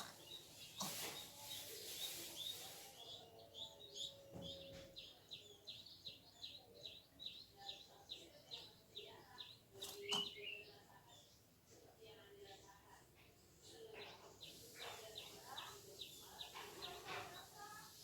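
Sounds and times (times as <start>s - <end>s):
bird chirping: 0.0s - 11.4s, 13.7s - 18.0s.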